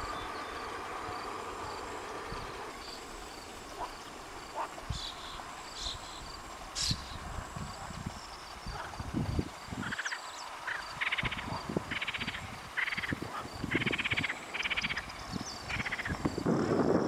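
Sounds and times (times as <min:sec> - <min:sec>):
frogs croaking: 0:00.0 - 0:17.0.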